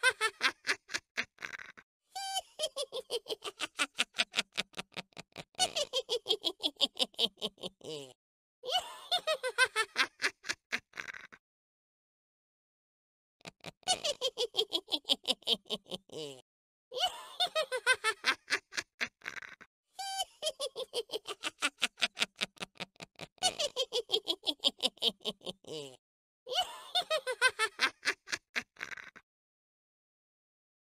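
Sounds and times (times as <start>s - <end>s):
witch cackling laugh: 0.0s - 11.4s, 13.4s - 16.4s, 17.0s - 29.2s.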